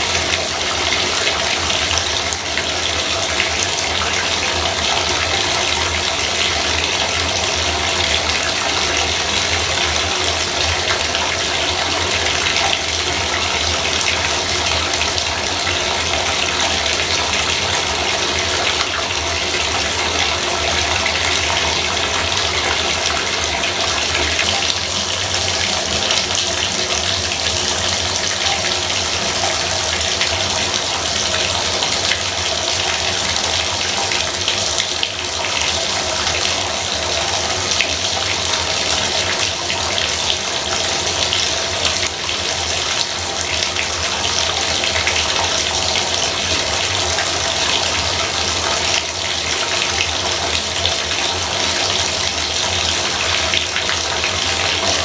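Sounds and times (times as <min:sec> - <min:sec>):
faucet running water: 0:00.0 - 0:55.0.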